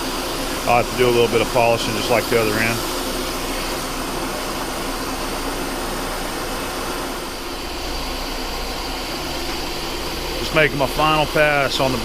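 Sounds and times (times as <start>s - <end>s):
metal lathe humming and hissing: 0.0s - 12.0s.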